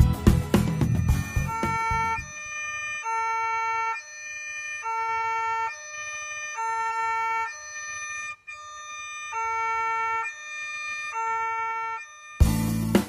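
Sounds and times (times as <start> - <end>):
level crossing alarm two-tone: 0.6 - 12.6.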